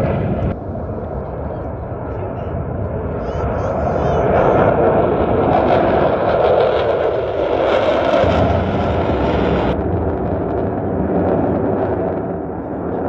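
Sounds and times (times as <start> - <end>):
jet noise: 0.0 - 13.0.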